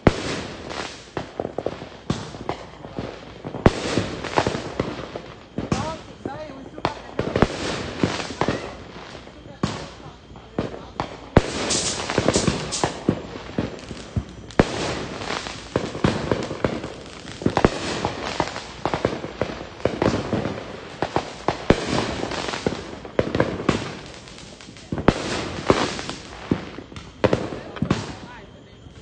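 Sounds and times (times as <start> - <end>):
fireworks popping and banging: 0.0 - 29.0.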